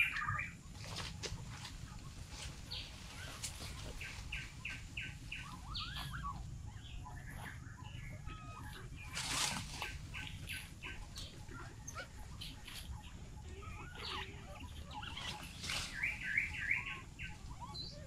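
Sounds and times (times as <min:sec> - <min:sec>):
high animal chirps and squeaks: 0:02.0 - 0:18.0.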